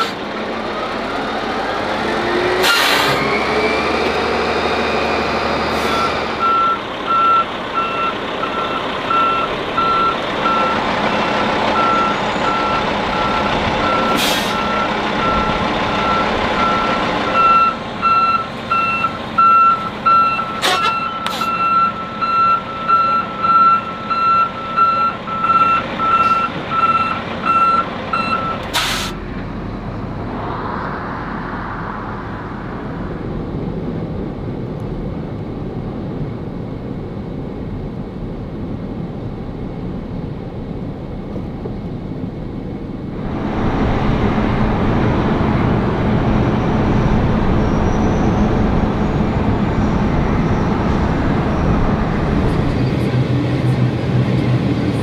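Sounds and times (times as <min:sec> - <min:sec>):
low engine drone: 0:00.0 - 0:55.0
road traffic noise: 0:00.0 - 0:55.0.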